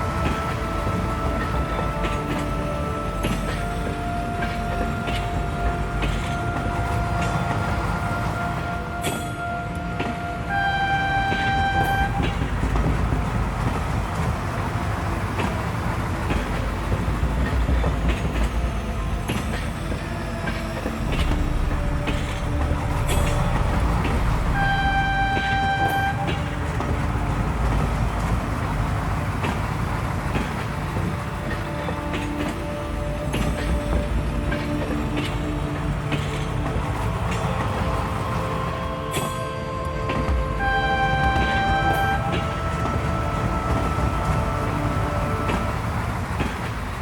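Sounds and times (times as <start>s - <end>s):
train horn blasts: 0.0s - 47.0s
train rumbling: 0.0s - 47.0s.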